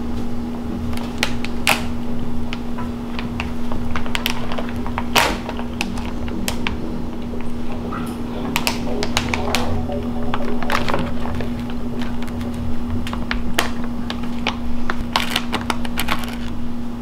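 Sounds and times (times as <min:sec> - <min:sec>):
low hum: 0:00.0 - 0:17.0
plastic bag crinkling: 0:00.9 - 0:16.7.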